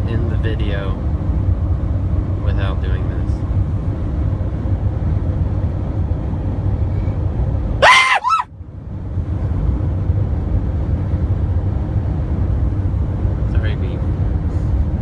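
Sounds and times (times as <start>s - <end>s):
van road rumble: 0.0s - 15.0s.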